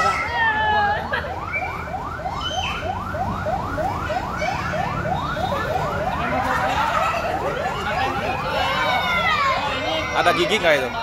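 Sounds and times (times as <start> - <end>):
fire truck siren yelping: 0.0 - 11.0.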